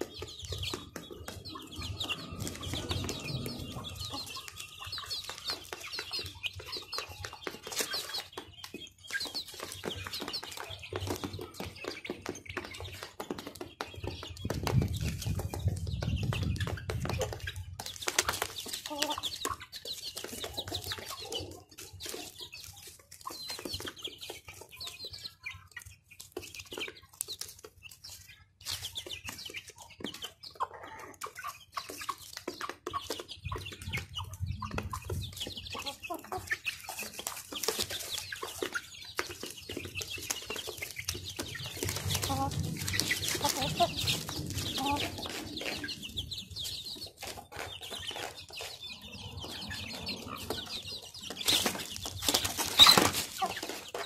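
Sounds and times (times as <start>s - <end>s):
chickens clucking: 0.0s - 54.0s
chickens pecking on cardboard: 0.0s - 54.0s
chicks peeping: 0.0s - 54.0s.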